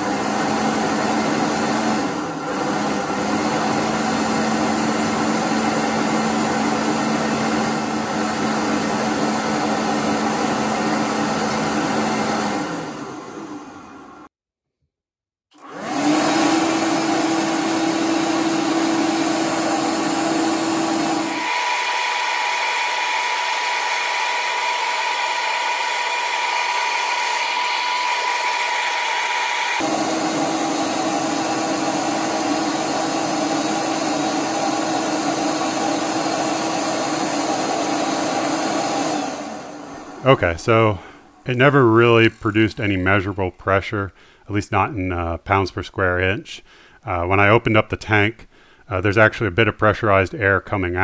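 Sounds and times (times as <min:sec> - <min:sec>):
compressor wheel whine: 0:00.0 - 0:14.3, 0:15.6 - 0:43.7.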